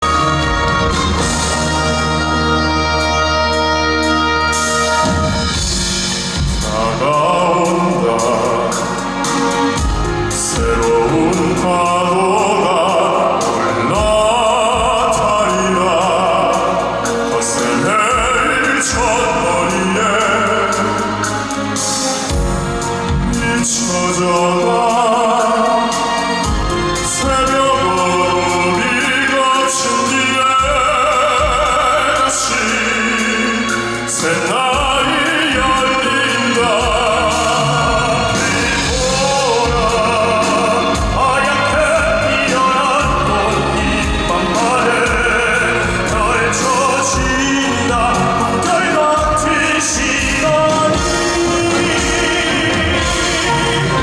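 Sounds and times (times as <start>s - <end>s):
instrumental accompaniment: 0.0s - 54.0s
male vocal group singing operatically: 0.0s - 54.0s.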